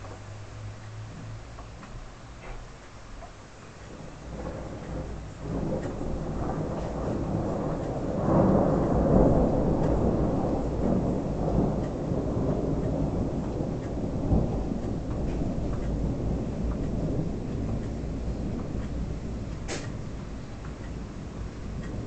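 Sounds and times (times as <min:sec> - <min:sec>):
rain falling: 0:00.0 - 0:22.0
thunder rumbling: 0:03.4 - 0:22.0.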